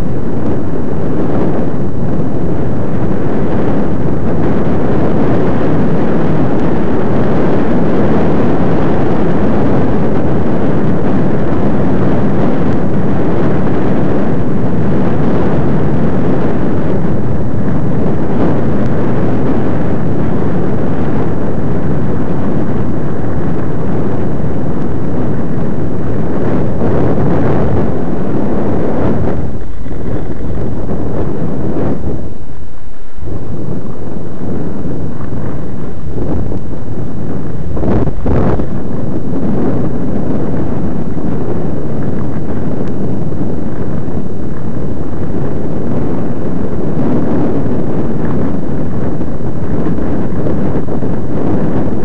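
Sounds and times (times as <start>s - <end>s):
wind rush on microphone: 0.0s - 52.0s.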